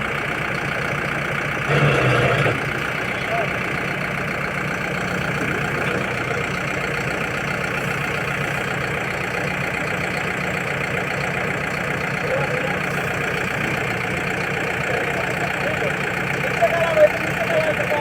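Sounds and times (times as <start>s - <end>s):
diesel engine running steadily: 0.0s - 18.0s.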